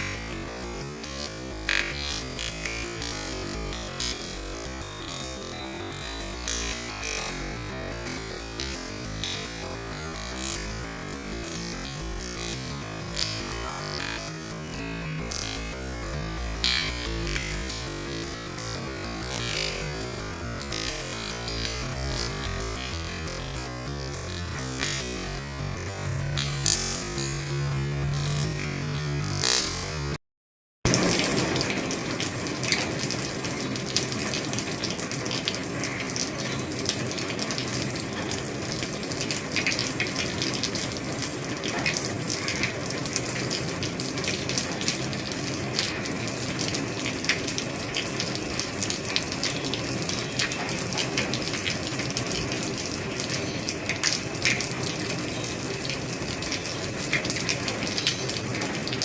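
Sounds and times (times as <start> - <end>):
heavy rain on a roof: 0.0 - 22.9, 30.9 - 59.0.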